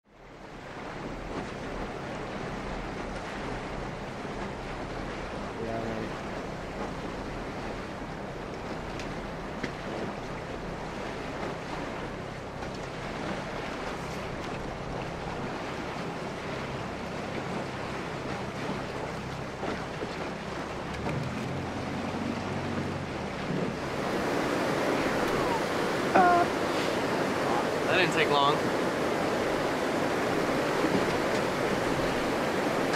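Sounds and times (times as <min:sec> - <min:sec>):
river water rushing: 0:00.1 - 0:32.9.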